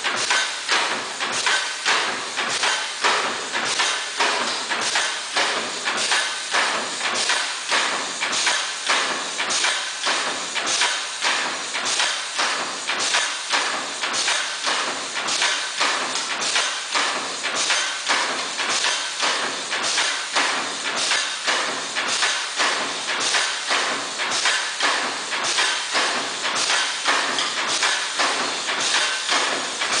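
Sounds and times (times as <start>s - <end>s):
machine mechanical clacks: 0.0s - 30.0s.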